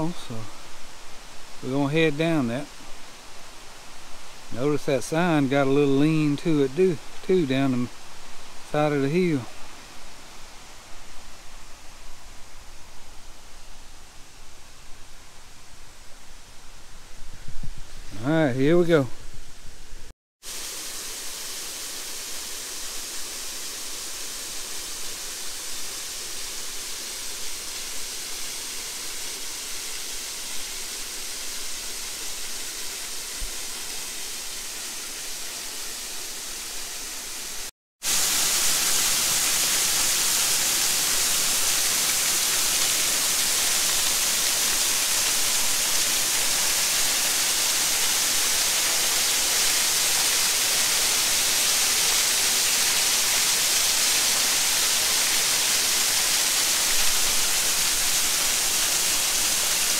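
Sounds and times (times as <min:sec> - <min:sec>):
waterfall rushing: 0:00.0 - 0:11.9, 0:20.4 - 0:59.9.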